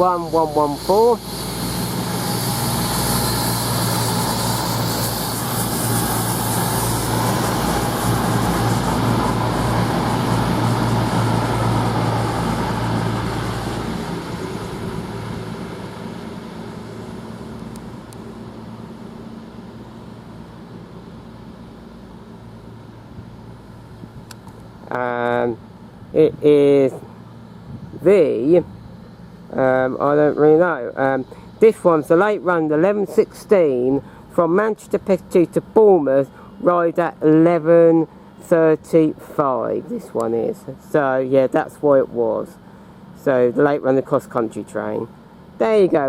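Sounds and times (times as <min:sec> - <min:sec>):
diesel train engines running: 0:00.0 - 0:46.0.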